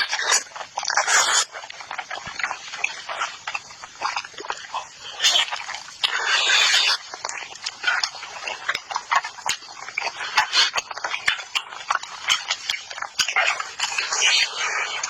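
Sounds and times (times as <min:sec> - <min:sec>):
crunchy bites: 0:00.0 - 0:15.0
wet chewing and lip smacks: 0:00.0 - 0:15.0.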